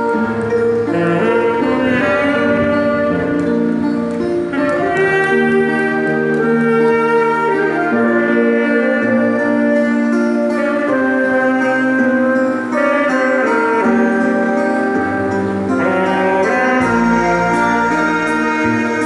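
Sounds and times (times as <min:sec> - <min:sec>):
backing track: 0:00.0 - 0:19.0
saxophone melody: 0:00.0 - 0:19.0.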